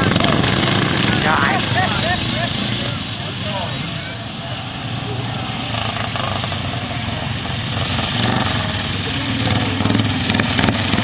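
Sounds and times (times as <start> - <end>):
lawn mower engines running: 0.0 - 11.0.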